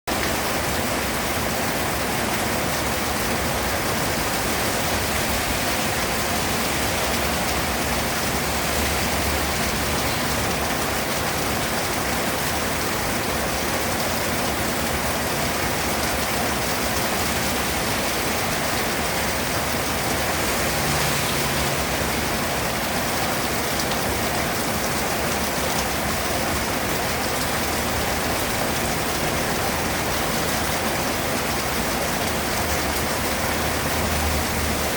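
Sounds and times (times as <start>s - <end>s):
rain pattering on surfaces: 0.1s - 34.9s.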